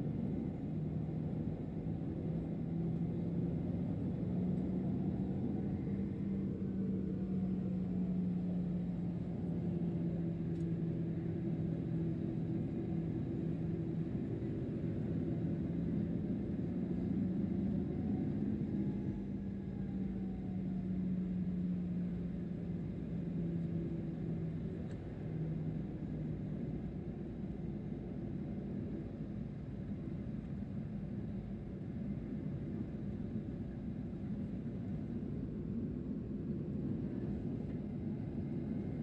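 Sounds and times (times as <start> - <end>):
airliner cabin rumble: 0.0 - 39.0
low engine hum: 0.0 - 39.0.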